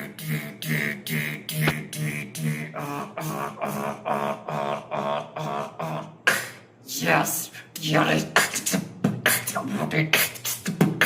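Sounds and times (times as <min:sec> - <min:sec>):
vocal beatboxing: 0:00.0 - 0:11.0.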